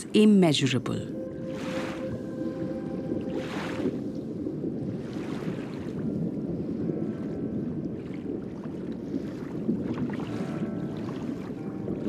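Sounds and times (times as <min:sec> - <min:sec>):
underwater rushing wash: 0:01.1 - 0:12.0.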